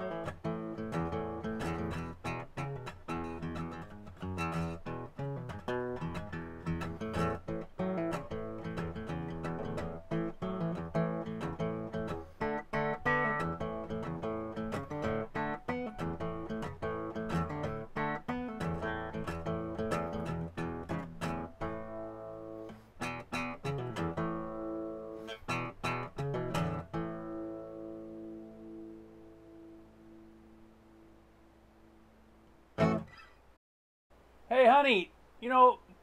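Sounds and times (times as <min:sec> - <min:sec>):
strummed acoustic guitar: 0:00.0 - 0:30.6, 0:32.8 - 0:33.4.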